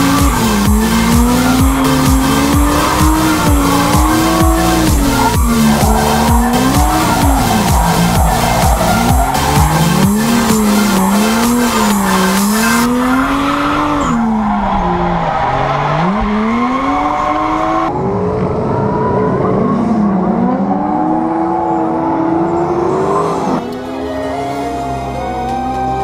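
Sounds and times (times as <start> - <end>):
car engine revving: 0.0 - 24.2
tires squealing on pavement: 0.0 - 26.0.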